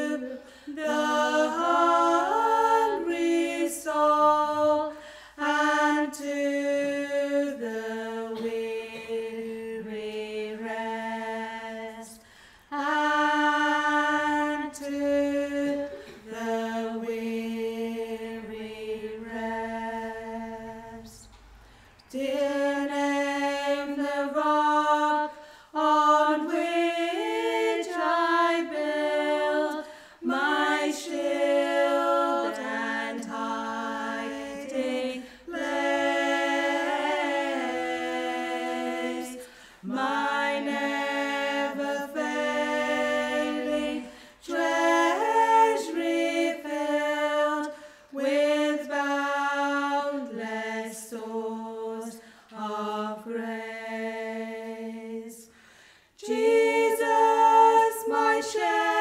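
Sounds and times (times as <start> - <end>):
women singing a hymn in harmony: 0.0 - 59.0.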